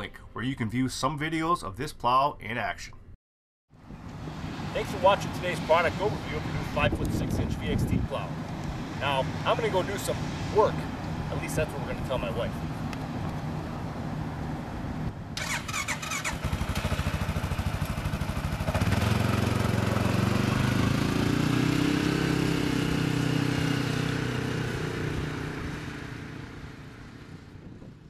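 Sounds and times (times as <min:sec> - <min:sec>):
quad bike engine: 0:03.9 - 0:28.0.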